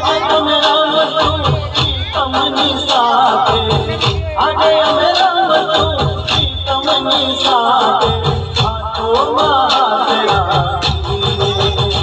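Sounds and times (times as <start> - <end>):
low drum beat: 0.0 - 12.0
person singing: 0.0 - 12.0
rhythmic percussion: 0.0 - 12.0.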